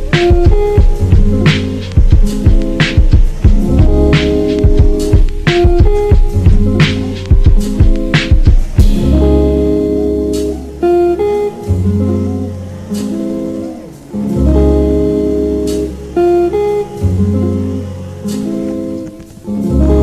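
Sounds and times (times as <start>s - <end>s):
steady bass line: 0.0s - 19.0s, 19.6s - 20.0s
strummed acoustic guitar: 0.0s - 20.0s.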